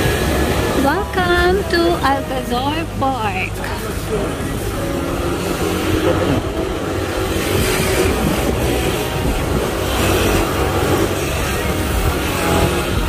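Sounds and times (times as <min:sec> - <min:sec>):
motor scooter running: 0:00.0 - 0:13.0
road noise: 0:00.0 - 0:13.0.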